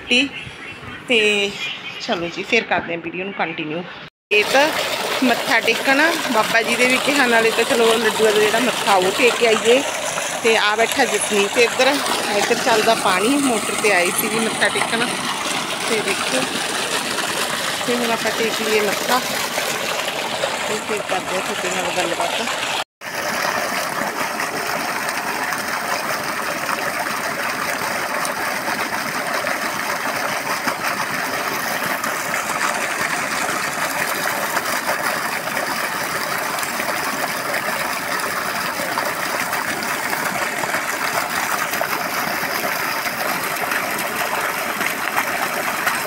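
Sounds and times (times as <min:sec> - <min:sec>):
water gushing from pump outlet: 0:04.3 - 0:46.0.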